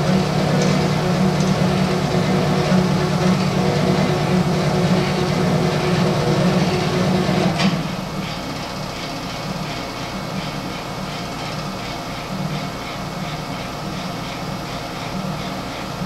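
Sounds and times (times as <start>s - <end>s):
milling machine motors humming: 0.0s - 16.0s.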